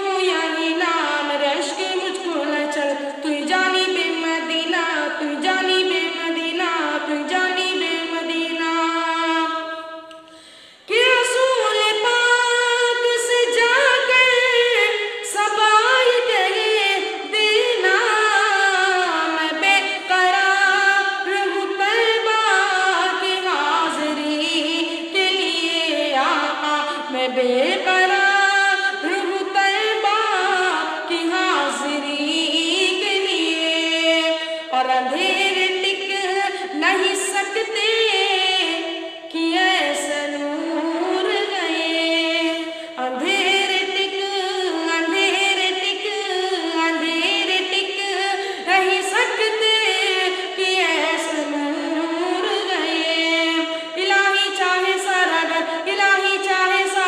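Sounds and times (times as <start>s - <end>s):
boy singing unaccompanied: 0.0s - 9.8s, 10.9s - 57.0s.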